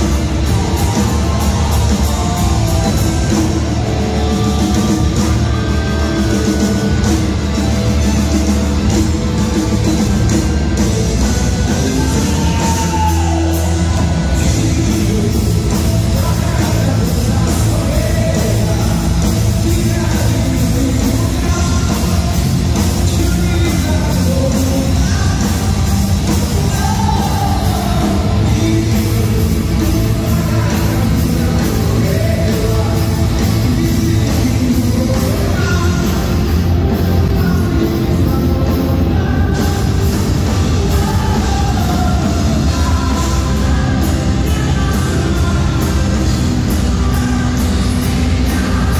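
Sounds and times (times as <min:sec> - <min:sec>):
live rock band with electric guitar: 0:00.0 - 0:48.9
man singing: 0:00.0 - 0:48.9.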